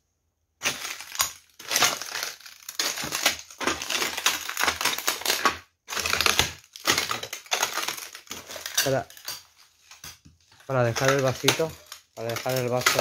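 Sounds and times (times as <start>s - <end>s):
crunching and scraping: 0.6s - 13.0s.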